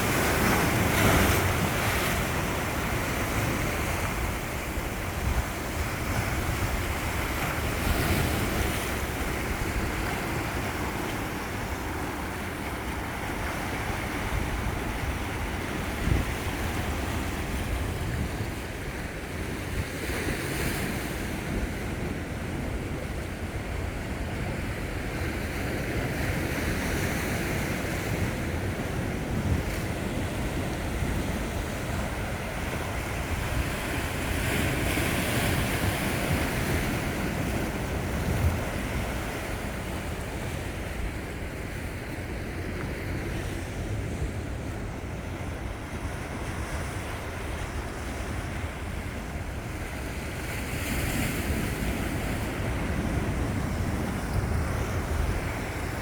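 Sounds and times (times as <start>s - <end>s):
wind rumbling on microphone: 0.0s - 19.9s, 27.4s - 56.0s
sea waves washing onto shore: 0.0s - 56.0s.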